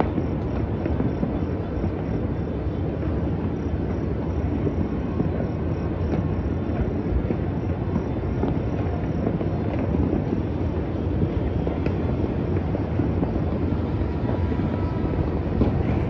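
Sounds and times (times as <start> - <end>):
distant fireworks rumble: 0.0 - 16.0.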